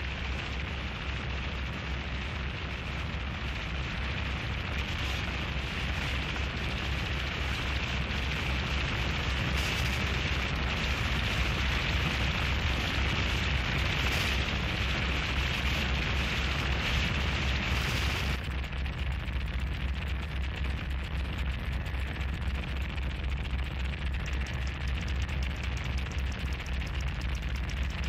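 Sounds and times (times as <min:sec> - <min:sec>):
distorted static noise music: 0:00.0 - 0:28.0
throbbing low rumble: 0:00.0 - 0:28.0.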